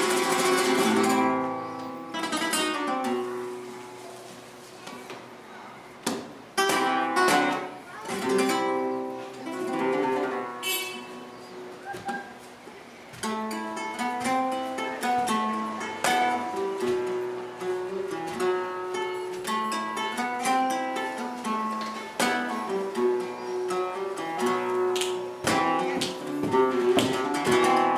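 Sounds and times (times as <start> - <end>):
flamenco guitar playing: 0.0 - 27.9.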